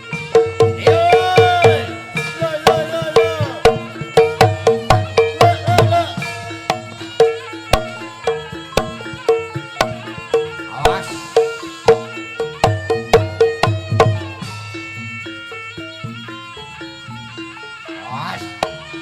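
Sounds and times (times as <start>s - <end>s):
bending melodic line: 0.0s - 19.0s
drum strokes: 0.0s - 19.0s.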